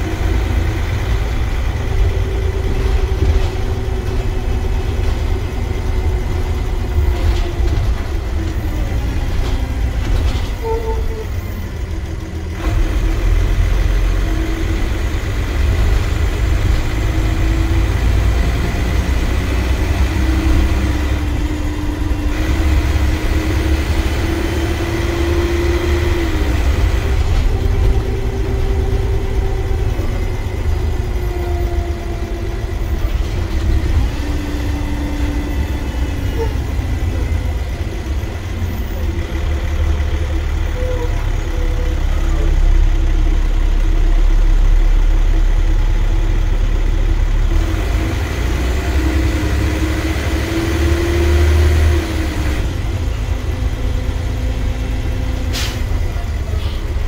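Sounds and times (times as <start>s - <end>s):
bus engine rumbling: 0.0s - 57.0s.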